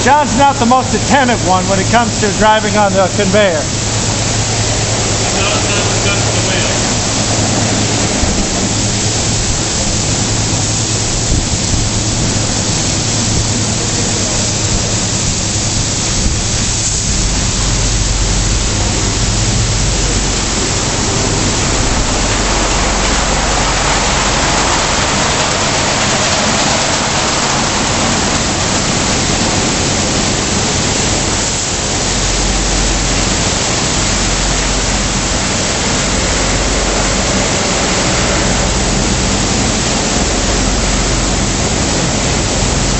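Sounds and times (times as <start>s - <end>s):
low machine hum: 0.0s - 42.9s
water jets spraying: 0.0s - 42.9s.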